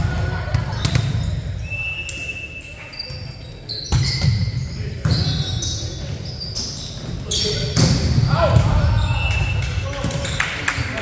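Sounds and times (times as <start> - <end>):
sneakers squeaking on gym floor: 0.5 - 9.6.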